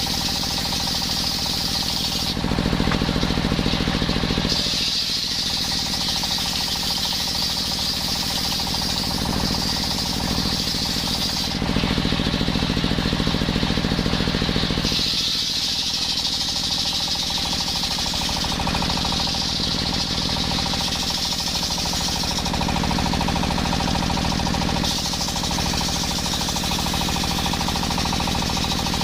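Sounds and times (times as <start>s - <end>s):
circular saw cutting wood: 0.0s - 29.0s.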